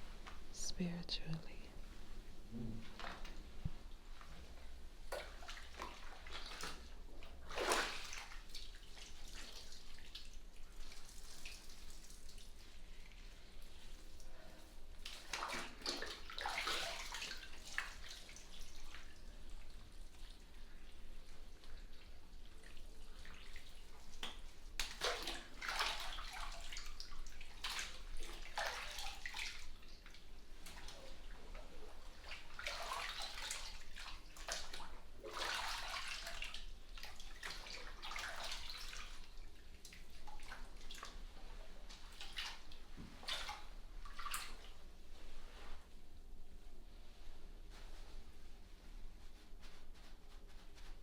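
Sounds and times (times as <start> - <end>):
bathwater sloshing and trickling: 1.8 - 51.0.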